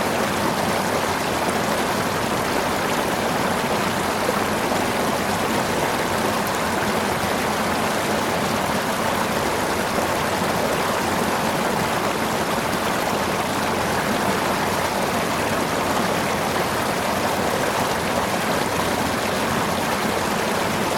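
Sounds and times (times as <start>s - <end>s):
river water flowing over stones: 0.0s - 20.9s.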